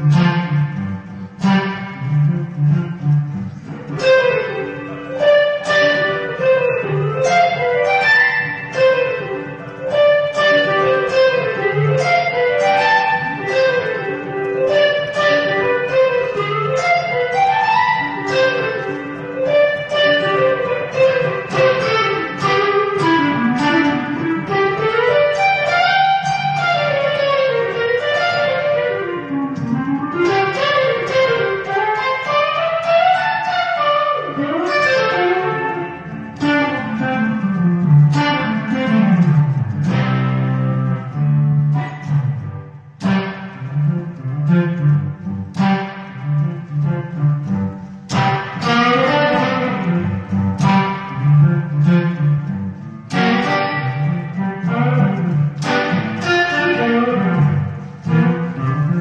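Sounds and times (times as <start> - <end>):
electric guitar lead line: 0.0 - 59.0.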